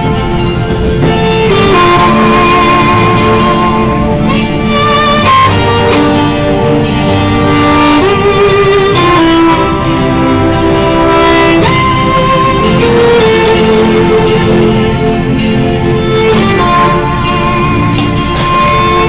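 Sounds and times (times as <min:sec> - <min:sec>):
moving train rumble: 0:00.0 - 0:19.0
violin slow melody: 0:00.0 - 0:19.0.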